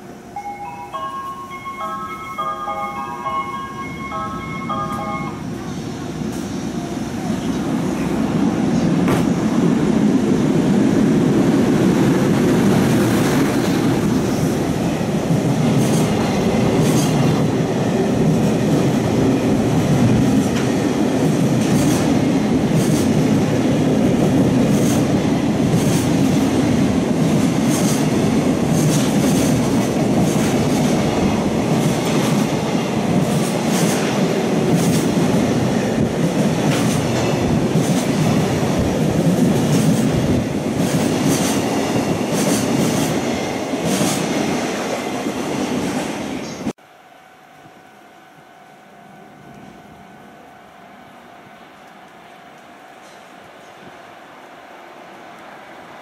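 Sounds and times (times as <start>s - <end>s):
train wheels rumbling on rails: 1.8s - 46.8s.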